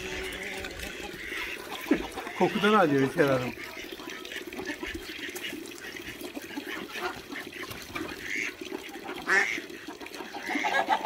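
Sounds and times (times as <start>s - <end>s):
farmyard fowl calling: 0.0s - 11.0s.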